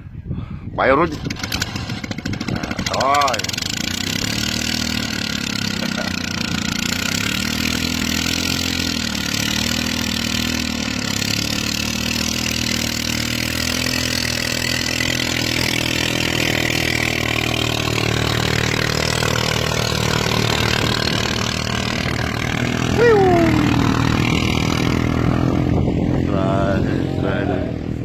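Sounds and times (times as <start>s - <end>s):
propeller churning through mud: 1.0s - 28.0s
boat engine running: 1.2s - 28.0s.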